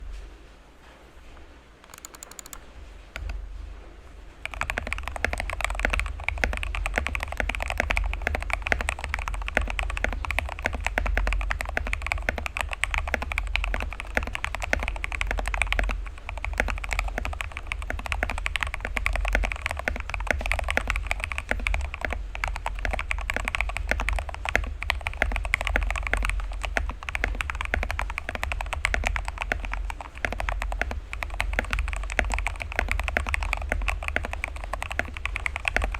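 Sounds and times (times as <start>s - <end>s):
steady low hum: 0.0s - 35.9s
mechanical keyboard typing: 1.8s - 3.4s, 4.4s - 35.9s.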